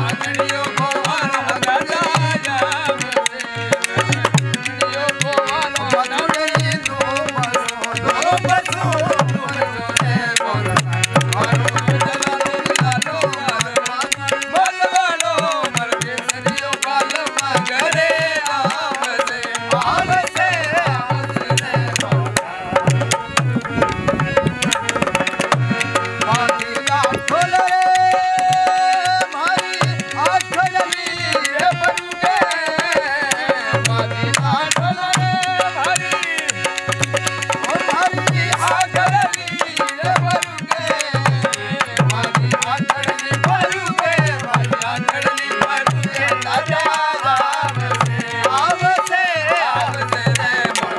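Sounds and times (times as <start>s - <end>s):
harmonium melody: 0.0s - 50.9s
man singing: 0.0s - 50.9s
wooden clappers clicking: 0.1s - 22.1s, 24.5s - 50.9s
hand drum beat: 0.7s - 19.2s, 19.8s - 50.9s.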